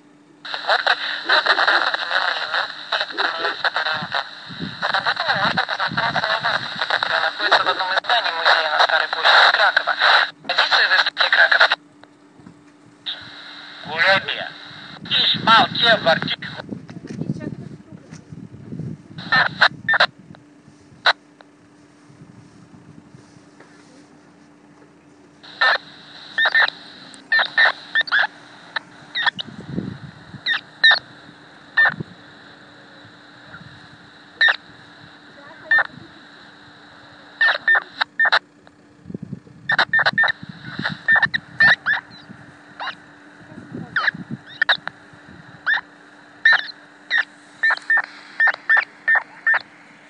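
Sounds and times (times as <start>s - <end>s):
radio hum and hiss: 0.0s - 50.0s.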